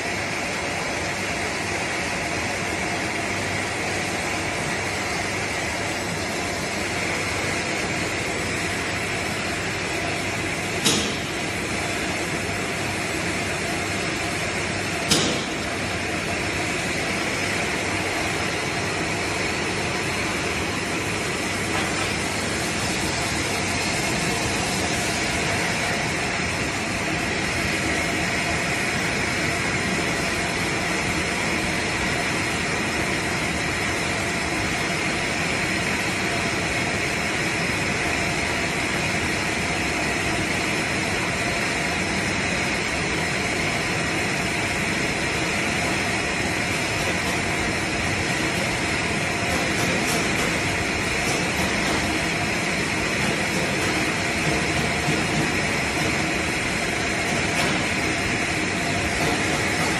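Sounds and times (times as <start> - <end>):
machine running: 0.0 - 59.9.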